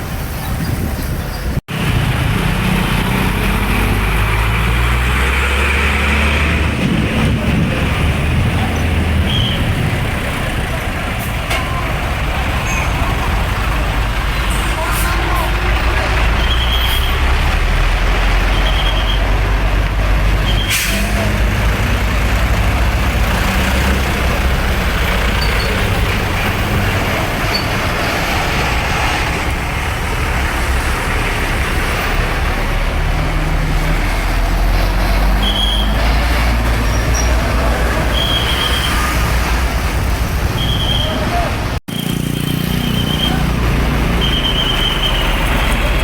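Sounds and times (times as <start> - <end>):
diesel truck engines rumbling: 0.0 - 46.0.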